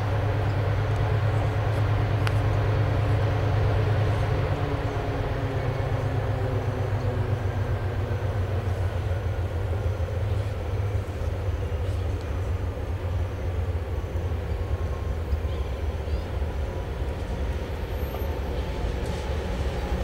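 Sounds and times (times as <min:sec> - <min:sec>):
locomotive engines droning: 0:00.0 - 0:20.0.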